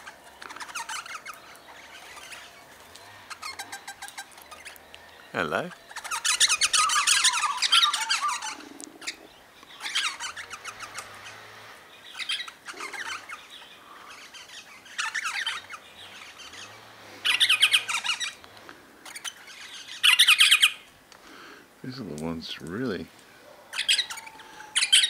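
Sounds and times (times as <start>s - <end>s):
birds chattering harshly: 0.0s - 25.0s.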